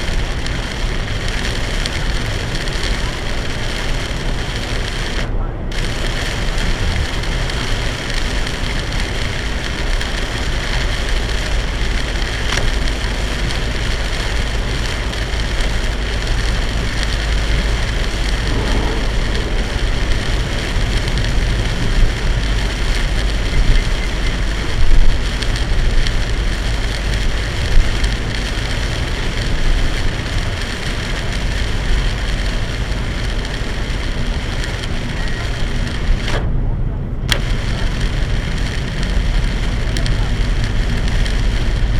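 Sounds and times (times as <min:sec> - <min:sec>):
heavy rain drumming on car: 0:00.0 - 0:41.9
tyre and road noise: 0:00.0 - 0:41.9.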